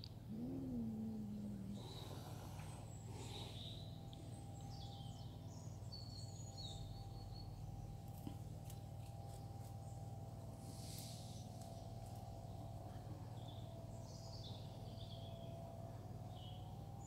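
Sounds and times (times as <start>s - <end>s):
faint bird chirps: 0.0s - 8.4s, 9.7s - 17.0s
low background hum: 0.0s - 17.0s.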